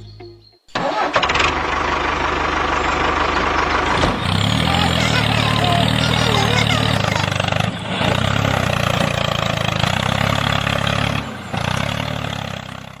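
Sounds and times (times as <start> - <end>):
small engine chugging: 0.8 - 13.0.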